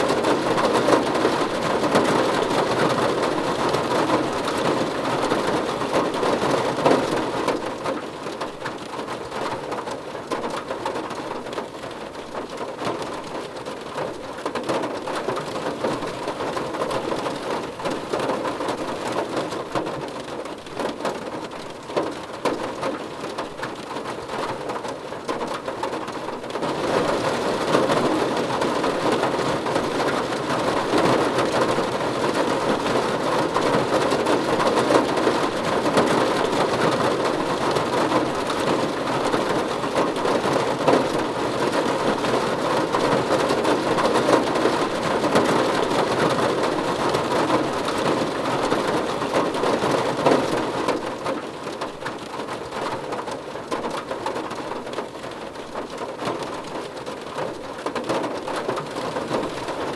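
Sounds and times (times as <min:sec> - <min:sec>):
individual raindrops: 0:00.0 - 0:59.9
steady rain falling: 0:00.0 - 0:59.9.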